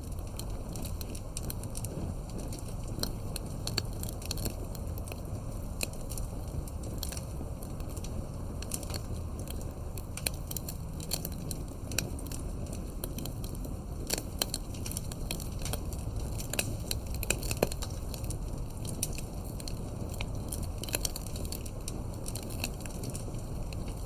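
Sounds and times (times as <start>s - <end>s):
campfire crackling and popping: 0.0s - 24.0s
low rumble of flames: 0.0s - 24.0s.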